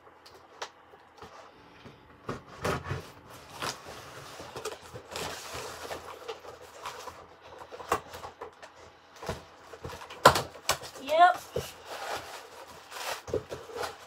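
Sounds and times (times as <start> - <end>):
packaging rustling and scraping: 2.3 - 14.0.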